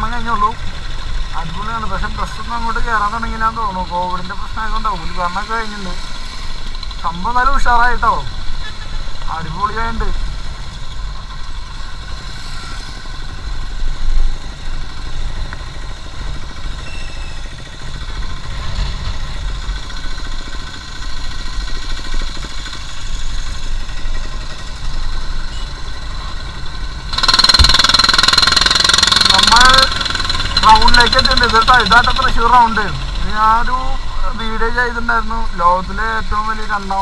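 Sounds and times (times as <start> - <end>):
motorcycle engine rumble: 0.0 - 37.0
road and wind noise: 0.0 - 37.0.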